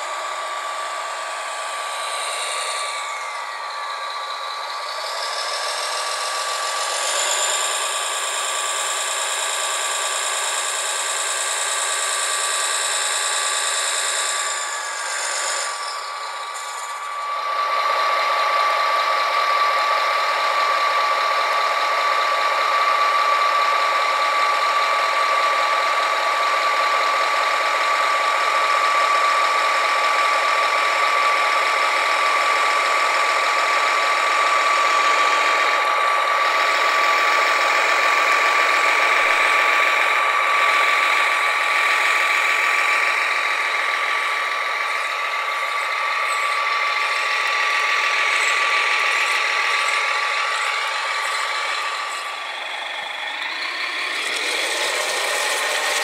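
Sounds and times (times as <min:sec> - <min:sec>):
electric motors and gearboxes whining: 0:00.0 - 0:56.0.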